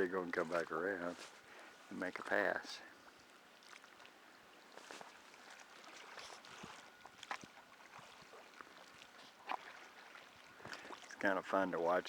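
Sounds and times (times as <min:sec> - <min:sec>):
soft wash of water: 0:00.0 - 0:12.0.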